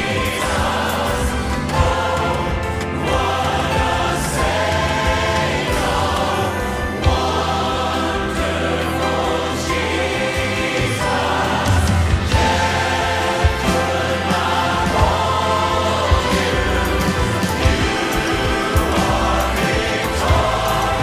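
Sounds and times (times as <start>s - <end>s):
choir singing: 0.0s - 21.0s
instrumental backing: 0.0s - 21.0s.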